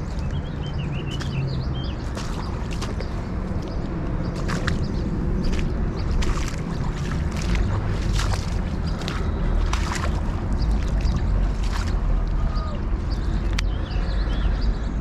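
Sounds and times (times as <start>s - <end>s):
flowing river: 0.0s - 14.7s
wind buffeting microphone: 0.0s - 15.0s.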